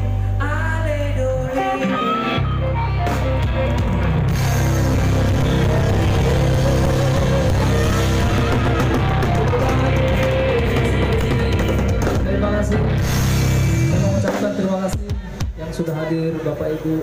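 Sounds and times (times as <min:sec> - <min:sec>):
live rock band playing: 0:00.0 - 0:16.5.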